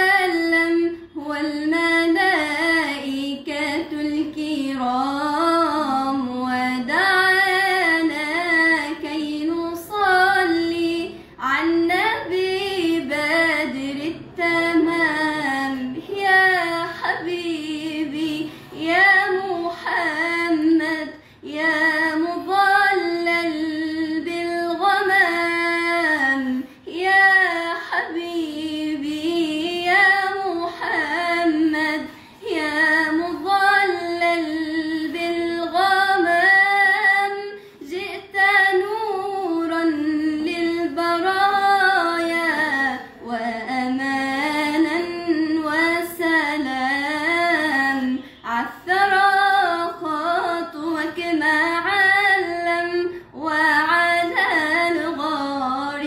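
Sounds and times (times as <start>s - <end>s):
girl singing devotional chant: 0.0s - 56.0s.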